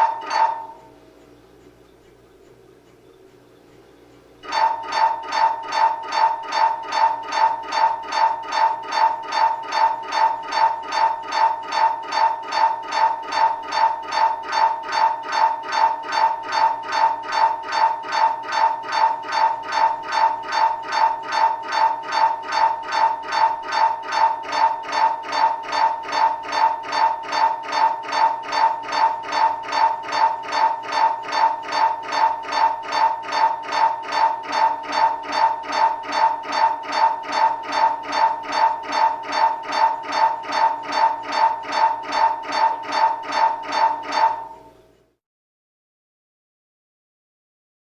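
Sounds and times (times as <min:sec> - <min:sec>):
mri scanner pulsing buzz: 0:00.0 - 0:02.0, 0:03.0 - 0:44.9.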